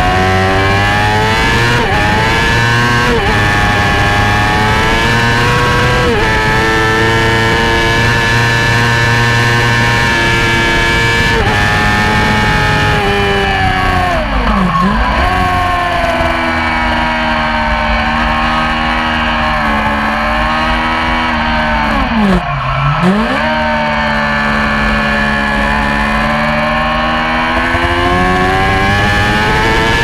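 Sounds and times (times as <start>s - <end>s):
motorcycle engine revving high: 0.0s - 30.0s.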